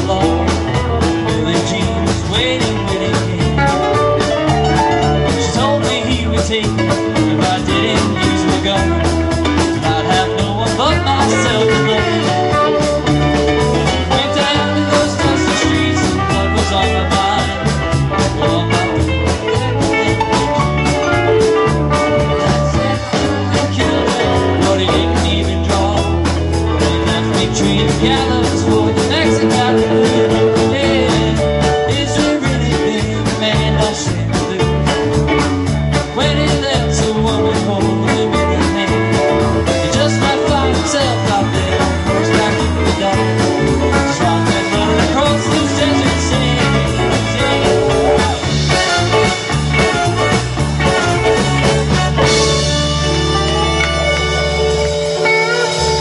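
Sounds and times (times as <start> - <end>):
country rock band playing: 0.0 - 56.0
drum beat: 0.0 - 56.0.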